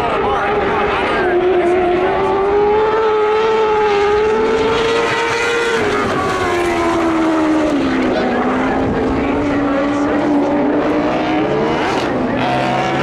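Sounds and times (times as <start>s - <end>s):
race car engine at high revs: 0.0s - 13.0s
second engine: 0.0s - 13.0s.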